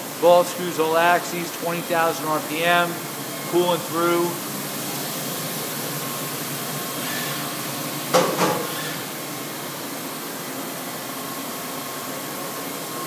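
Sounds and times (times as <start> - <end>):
machining center humming and hissing: 0.0 - 13.0.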